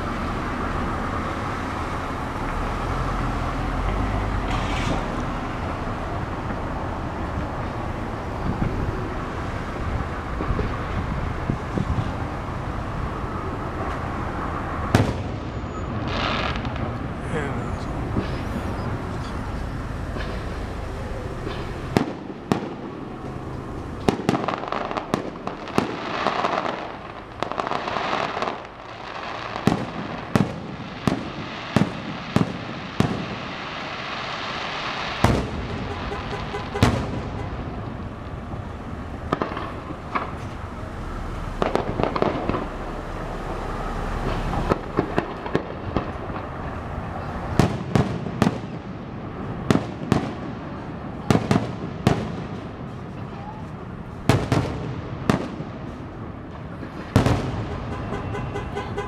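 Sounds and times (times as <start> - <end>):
fireworks crackle and hiss: 3.8 - 58.0
fireworks bangs: 3.8 - 59.0.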